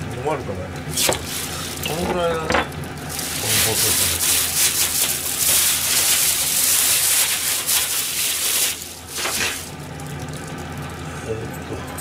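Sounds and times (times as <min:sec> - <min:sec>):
plastic bag crinkling: 0:01.0 - 0:10.8.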